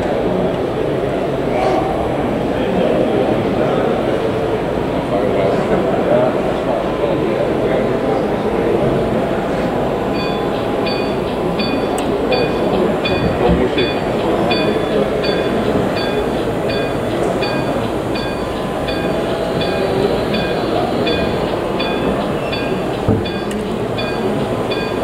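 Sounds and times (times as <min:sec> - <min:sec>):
exhibition hall background noise: 0:00.0 - 0:25.0.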